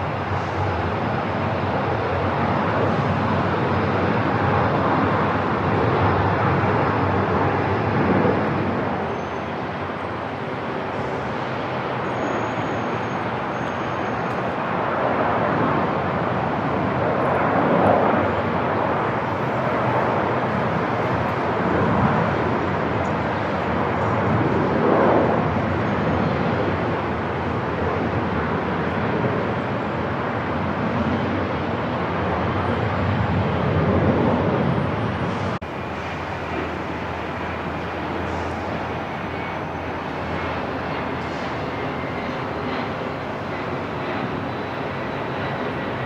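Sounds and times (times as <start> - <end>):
airport ambience: 0.0 - 46.0.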